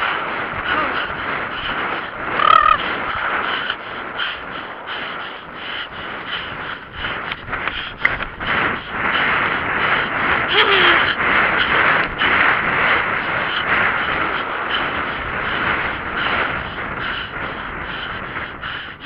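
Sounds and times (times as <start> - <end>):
horse breathing: 0.0 - 19.0.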